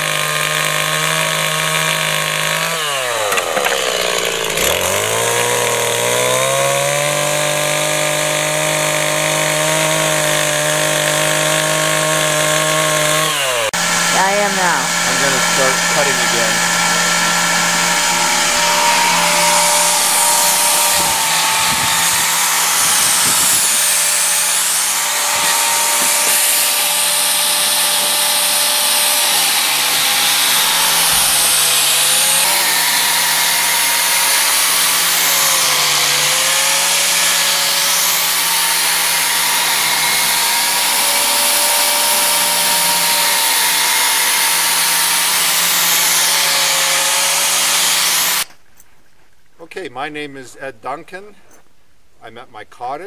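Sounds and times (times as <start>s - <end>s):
electric router cutting ice: 0.0s - 48.5s.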